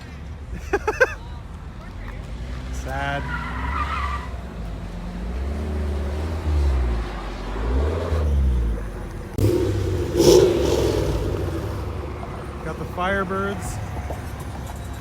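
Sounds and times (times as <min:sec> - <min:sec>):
car engine revving: 0:02.4 - 0:15.0.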